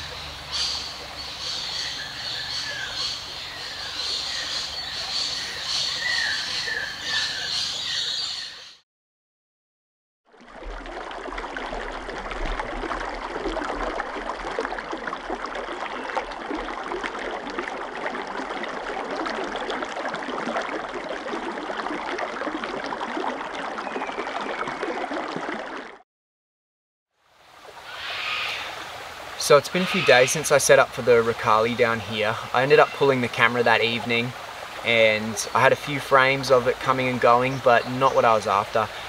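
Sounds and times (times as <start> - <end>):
creek water babbling over rocks: 0.0 - 7.9, 10.3 - 26.0, 27.2 - 39.0.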